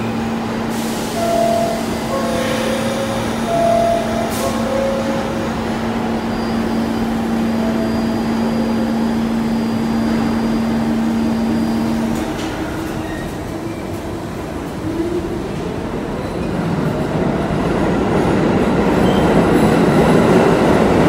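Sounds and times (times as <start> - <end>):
subway train equipment humming: 0.0 - 21.0.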